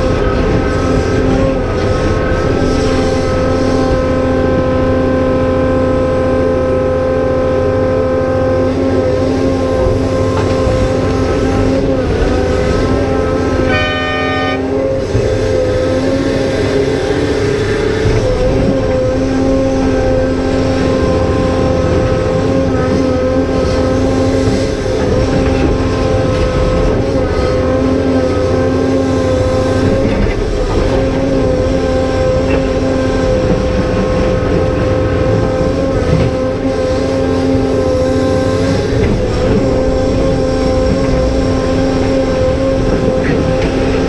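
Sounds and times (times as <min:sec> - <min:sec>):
diesel engine running: 0:00.0 - 0:44.0
hydraulic pump whine: 0:00.0 - 0:44.0.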